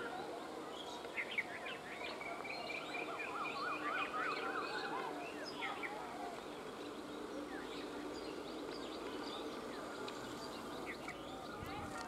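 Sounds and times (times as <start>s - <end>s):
birds chirping: 0.0s - 12.0s
faint outdoor background noise: 0.0s - 12.0s.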